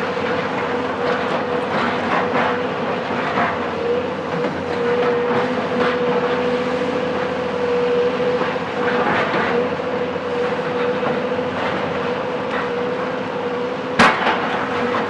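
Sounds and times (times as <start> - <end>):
excavator engine whine: 0.0 - 15.0.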